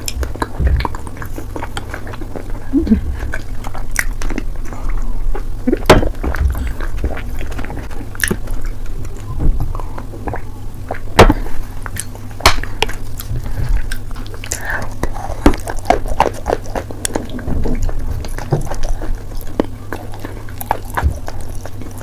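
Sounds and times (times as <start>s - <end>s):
steady low hum: 0.0s - 22.0s
sticky chewing mouth noises: 0.0s - 22.0s.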